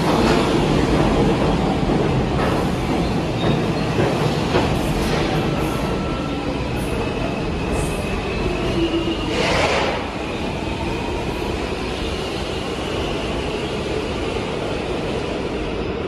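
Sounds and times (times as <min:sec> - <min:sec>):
subway train rumbling past: 0:00.0 - 0:16.0.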